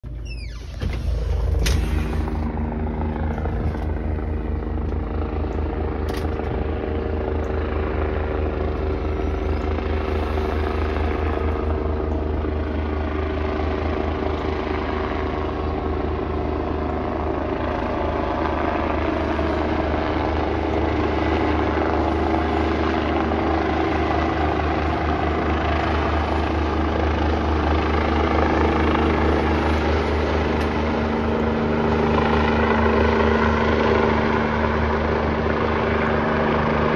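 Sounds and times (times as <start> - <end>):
helicopter rotor chop: 0.0 - 36.9.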